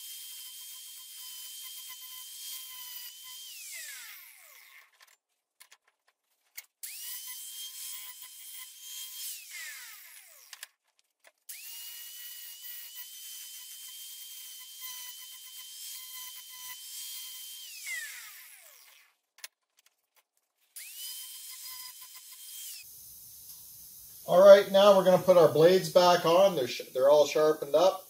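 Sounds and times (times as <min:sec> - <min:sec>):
angle grinder grinding metal: 0:00.0 - 0:05.0, 0:06.8 - 0:10.7, 0:11.5 - 0:19.1, 0:20.8 - 0:28.0.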